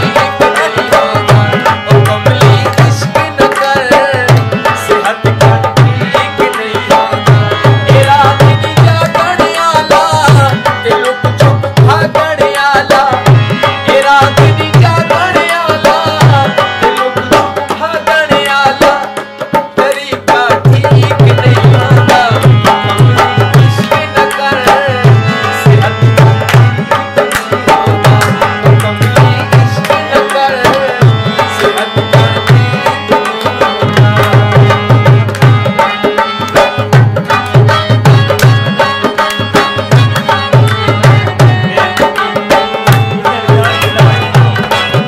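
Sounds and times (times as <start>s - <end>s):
harmonium: 0.0s - 45.0s
tabla: 0.0s - 45.0s.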